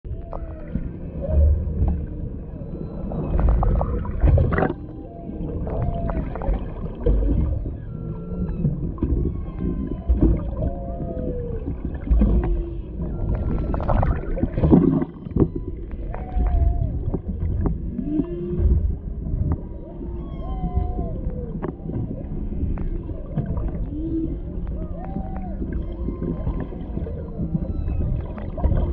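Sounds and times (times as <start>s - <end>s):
whales singing underwater: 0.1s - 28.9s.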